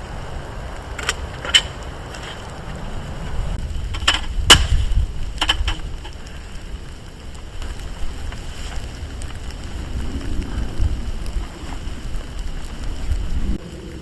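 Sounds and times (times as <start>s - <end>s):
low rumble: 0.0s - 14.0s
raindrops tapping on tarp: 0.0s - 14.0s.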